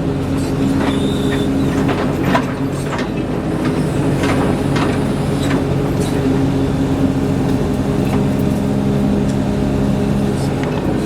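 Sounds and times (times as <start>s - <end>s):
earthmoving machine engine running: 0.0s - 11.0s.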